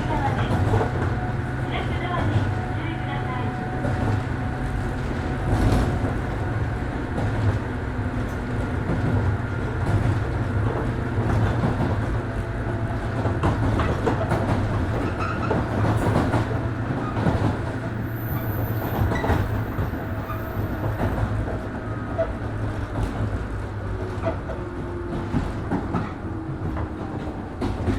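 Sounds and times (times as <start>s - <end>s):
train rumbling: 0.0s - 27.9s
wheels clacking over rail joints: 3.2s - 27.9s.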